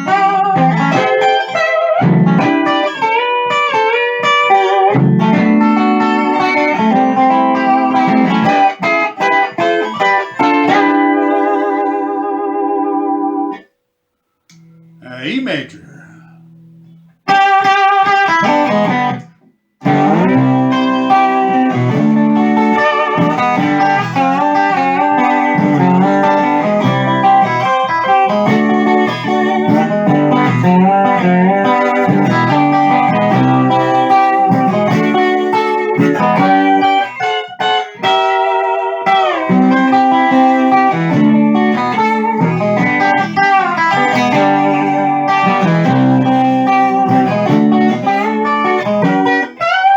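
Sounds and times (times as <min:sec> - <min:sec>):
steel guitar notes and chords: 0:00.0 - 0:13.7, 0:14.5 - 0:49.9.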